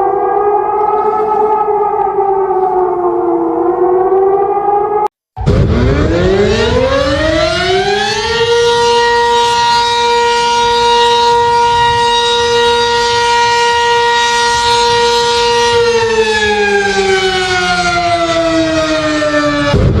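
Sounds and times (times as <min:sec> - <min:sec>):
civil defence siren winding: 0:00.0 - 0:19.8.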